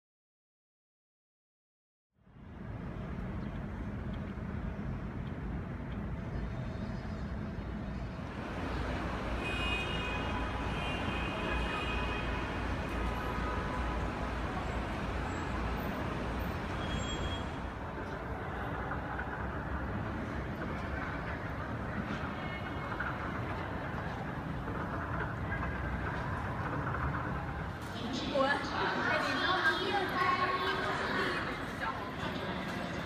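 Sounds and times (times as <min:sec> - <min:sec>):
low rumble of traffic: 0:02.2 - 0:33.0.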